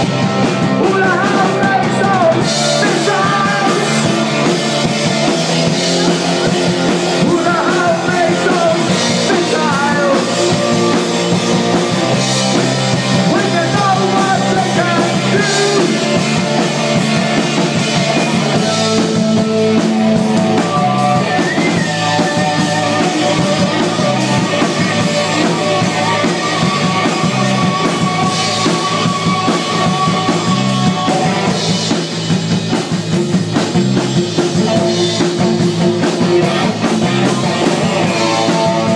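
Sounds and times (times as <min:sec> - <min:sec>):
bass guitar: 0:00.0 - 0:38.9
drums: 0:00.0 - 0:38.9
electric guitar: 0:00.0 - 0:38.9.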